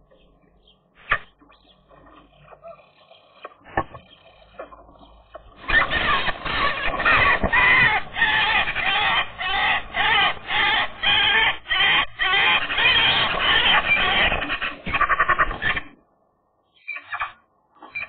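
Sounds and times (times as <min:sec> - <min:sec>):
magpies chattering harshly: 0:00.2 - 0:16.0, 0:16.8 - 0:18.0.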